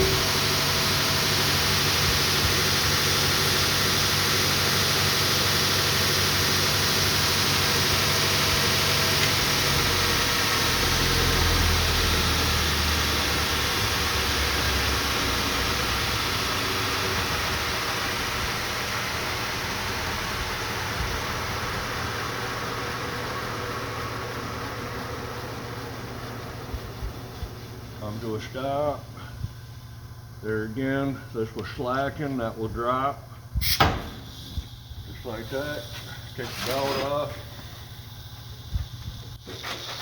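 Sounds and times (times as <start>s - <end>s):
belt sander hissing: 0.0s - 29.9s, 33.6s - 40.0s.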